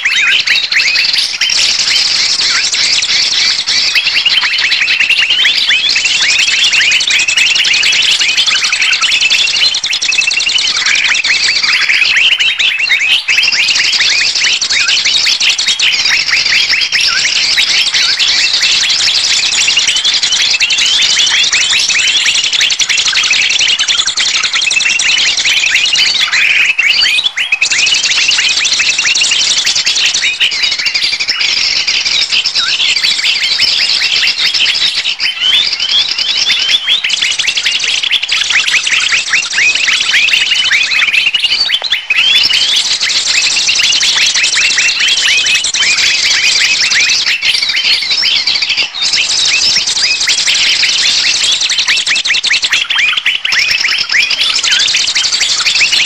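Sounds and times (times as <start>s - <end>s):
flock of small birds chirping: 0.0s - 56.0s.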